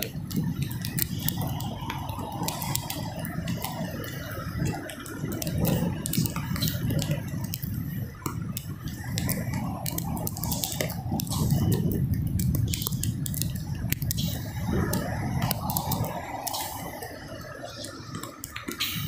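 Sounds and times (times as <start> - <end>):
heavy surf: 0.0 - 19.0
sharp ticks and wet squishes: 0.0 - 19.0
wind rumble: 0.0 - 19.0.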